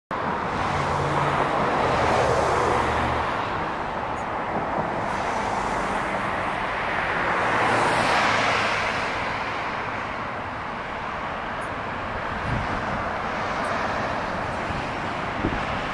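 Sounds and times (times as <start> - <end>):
passing cars: 0.1 - 15.9.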